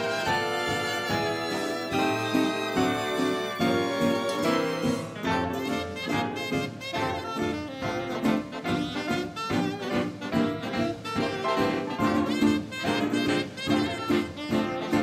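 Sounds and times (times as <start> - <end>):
saxophones and brass: 0.0 - 15.0
swing dance band playing: 0.0 - 15.0.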